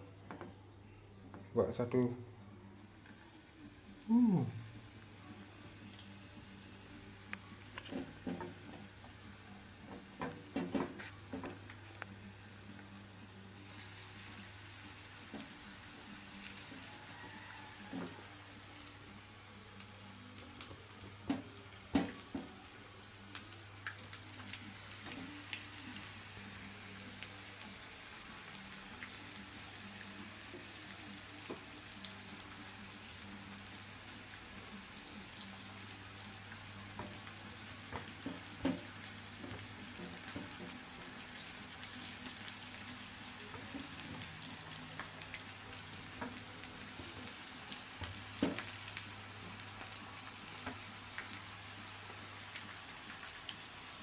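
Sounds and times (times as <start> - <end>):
deep-frying sizzle: 2.8 - 54.0.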